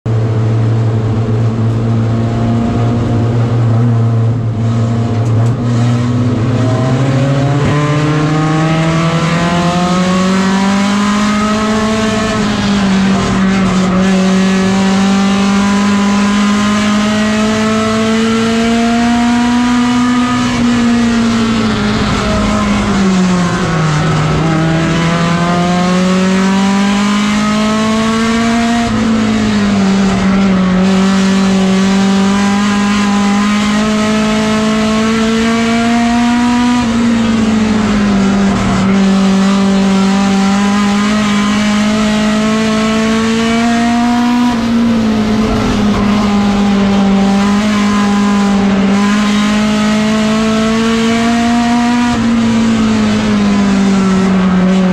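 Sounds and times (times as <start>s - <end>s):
race car engine accelerating: 0.1s - 54.9s.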